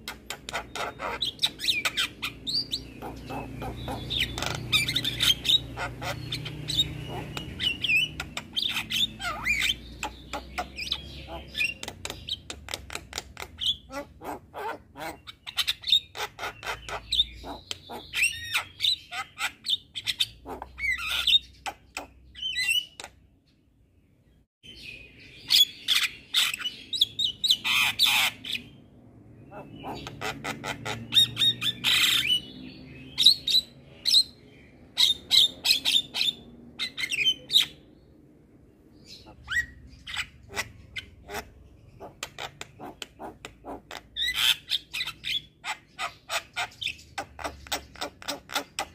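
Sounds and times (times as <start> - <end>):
myna bird song: 0.0 - 48.9.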